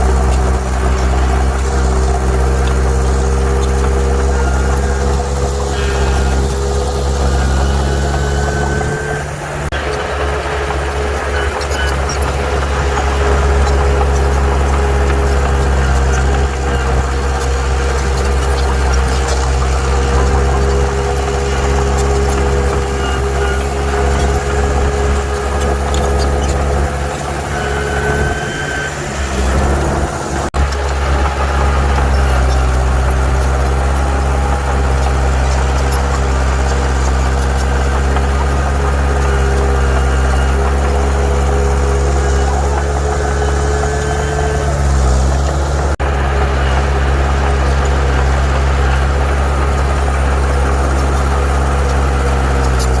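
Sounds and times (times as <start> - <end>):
bulldozer diesel engine: 0.0 - 53.0
short high squeals: 0.0 - 53.0.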